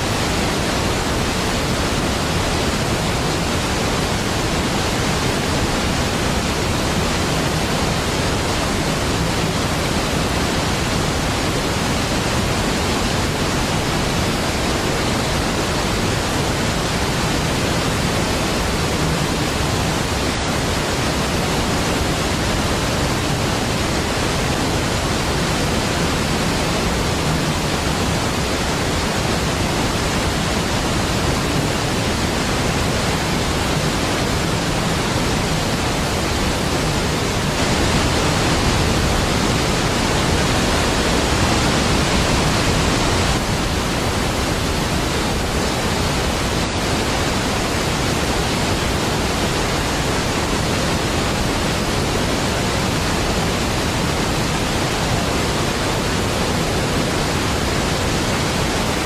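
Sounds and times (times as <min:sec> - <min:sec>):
large waterfall pouring: 0:00.0 - 0:59.0.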